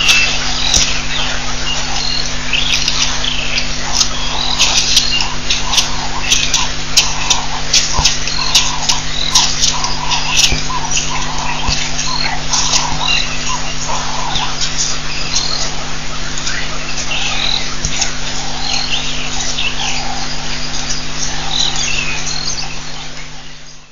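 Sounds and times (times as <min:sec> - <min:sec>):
birds chirping and whistling: 0:00.0 - 0:23.9
steady low hum: 0:00.0 - 0:23.9.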